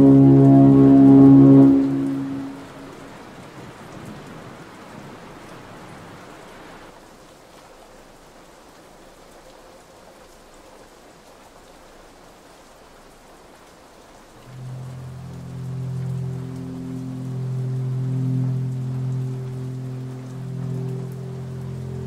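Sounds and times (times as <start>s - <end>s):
heavy rain on hard ground: 0.0s - 22.0s.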